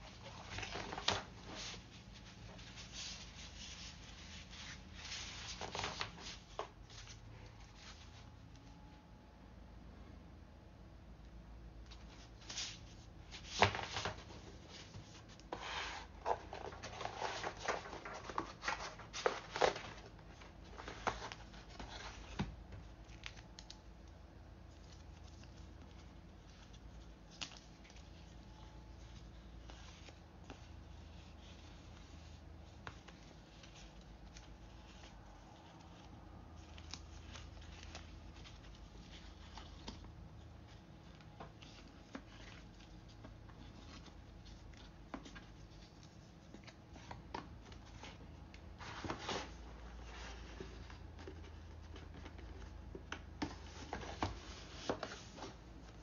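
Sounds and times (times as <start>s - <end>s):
rustling of paper and cardboard: 0.0s - 8.7s, 11.9s - 23.8s, 24.6s - 56.0s.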